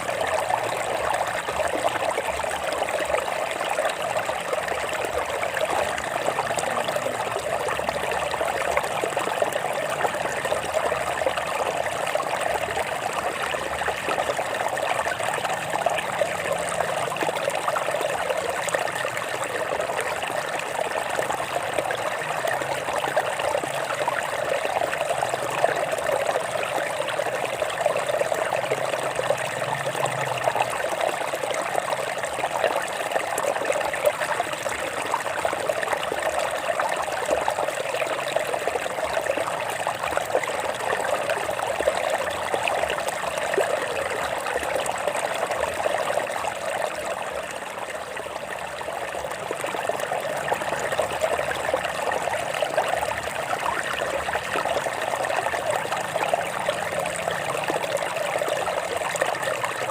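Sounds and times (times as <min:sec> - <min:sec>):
water running over rocks: 0:00.0 - 0:59.9.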